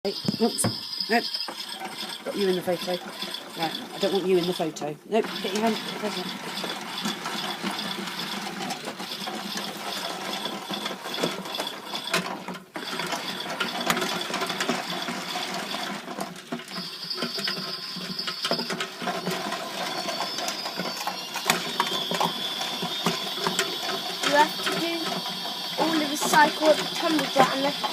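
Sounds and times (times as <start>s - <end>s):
washing machine and dryer clatter: 0.0s - 27.9s.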